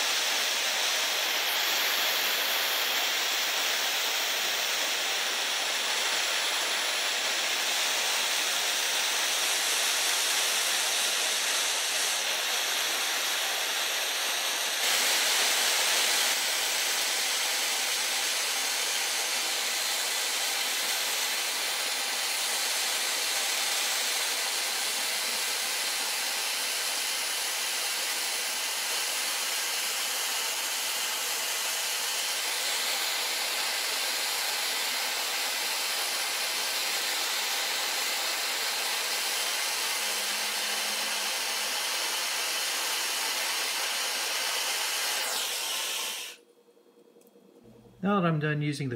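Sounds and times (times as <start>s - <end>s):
gas torch flame hissing: 0.0s - 46.4s.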